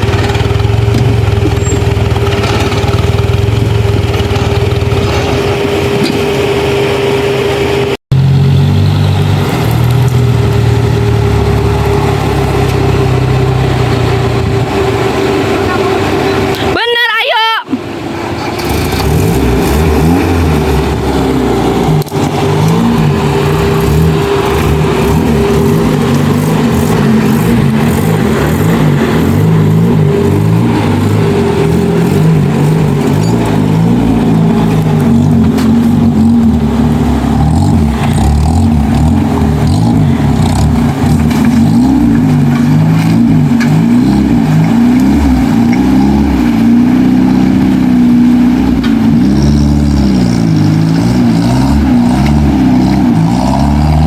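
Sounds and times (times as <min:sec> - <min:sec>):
off-road vehicle engine revving: 0:00.0 - 0:17.0, 0:17.7 - 0:54.0.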